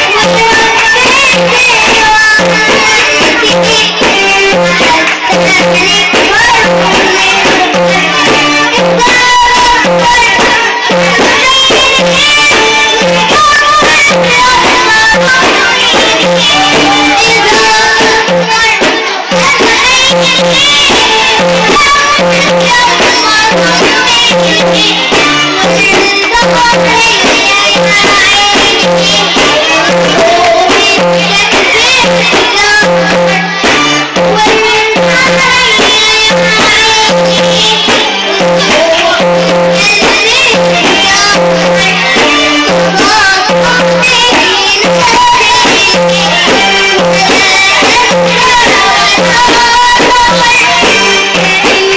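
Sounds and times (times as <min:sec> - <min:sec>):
girl singing: 0:00.0 - 0:51.9
instrumental music with bass beat: 0:00.0 - 0:51.9.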